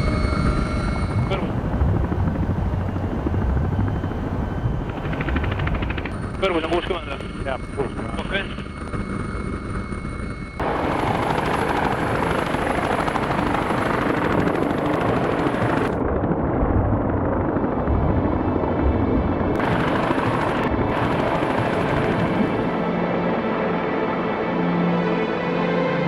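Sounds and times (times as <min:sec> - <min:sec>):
helicopter rotors hovering: 0:00.0 - 0:24.5.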